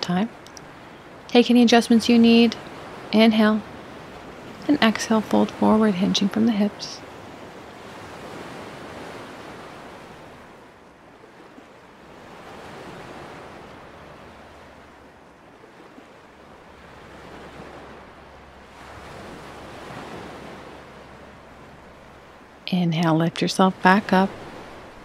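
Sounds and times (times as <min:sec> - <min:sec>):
small waves washing onto shore: 0:00.0 - 0:25.0.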